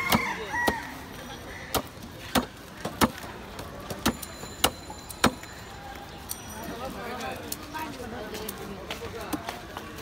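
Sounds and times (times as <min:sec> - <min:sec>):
market background: 0:00.0 - 0:10.0.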